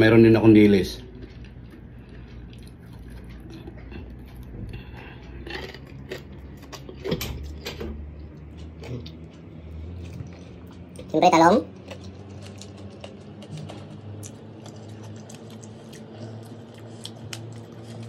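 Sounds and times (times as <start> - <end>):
low steady hum: 0.0 - 18.0
mouth smacks and clicks chewing: 1.1 - 11.1, 11.8 - 18.0.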